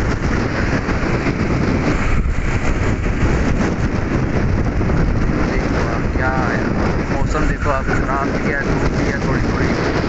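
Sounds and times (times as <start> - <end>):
motorcycle riding noise: 0.0 - 10.0.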